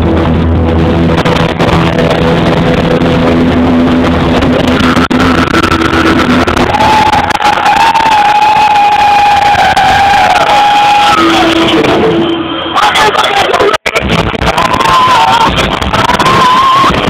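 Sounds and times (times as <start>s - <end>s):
distorted live hard rock band: 0.0s - 17.0s.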